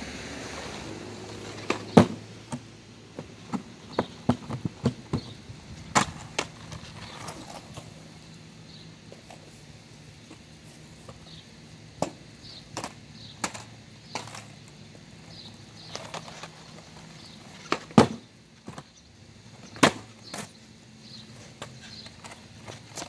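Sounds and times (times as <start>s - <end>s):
skateboard clacking on concrete: 1.3s - 9.5s, 11.1s - 23.0s.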